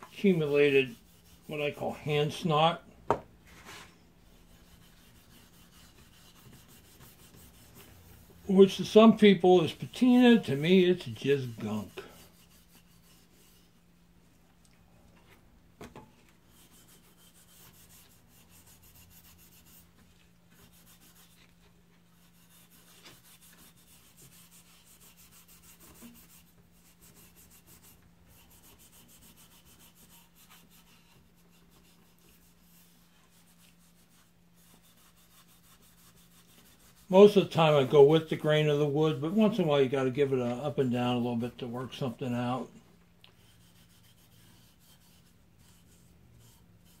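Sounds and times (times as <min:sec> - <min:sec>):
steel wool rubbing wood: 0:00.0 - 0:02.8, 0:03.5 - 0:13.8, 0:16.4 - 0:42.7, 0:43.3 - 0:47.0.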